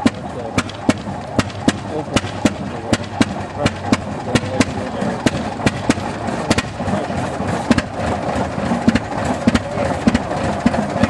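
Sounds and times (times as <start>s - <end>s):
mechanical clatter: 0.0s - 11.0s
tractor engine exhaust cracks: 0.0s - 11.0s.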